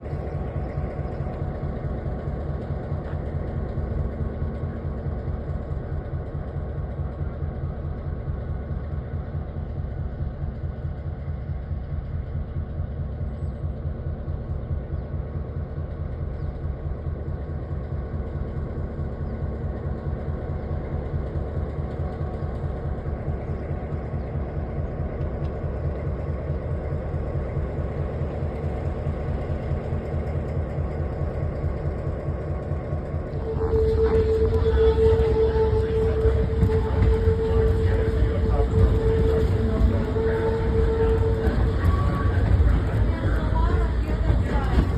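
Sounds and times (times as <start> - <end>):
train engine running: 0.0 - 44.9.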